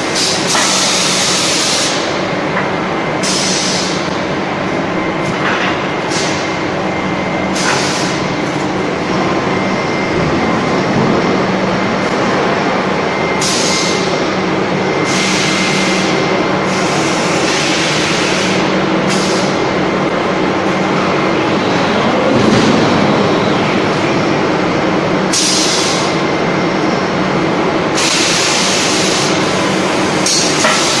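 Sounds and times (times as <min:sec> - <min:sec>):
forging machinery humming: 0:00.0 - 0:31.0.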